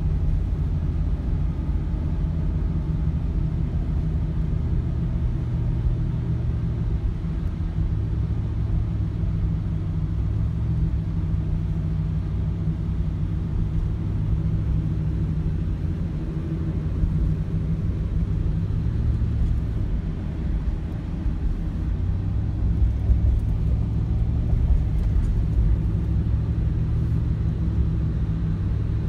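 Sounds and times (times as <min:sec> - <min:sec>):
vehicle cabin rumble: 0:00.0 - 0:29.0.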